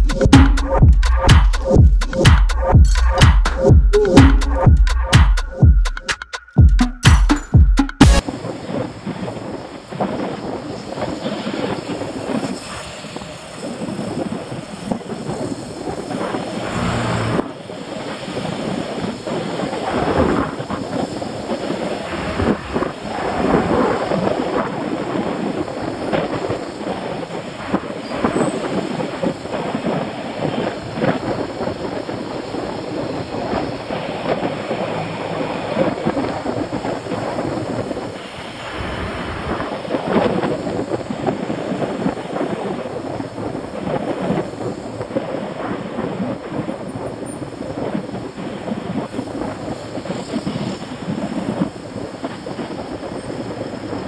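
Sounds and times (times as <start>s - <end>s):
bicycle road noise: 8.2s - 54.0s
wind buffeting microphone: 8.2s - 54.0s.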